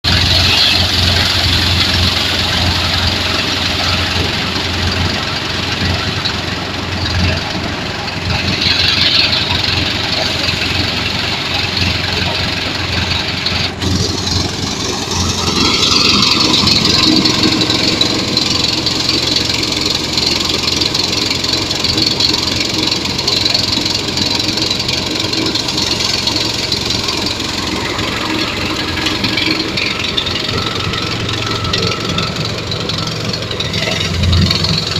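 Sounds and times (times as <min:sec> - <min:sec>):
threshing machine engine clattering: 0:00.0 - 0:34.9.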